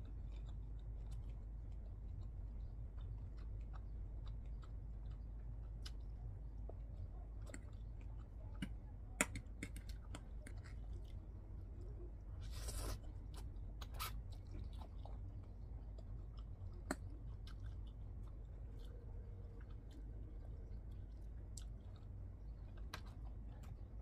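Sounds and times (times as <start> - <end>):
person chewing noodles: 0.0 - 24.0.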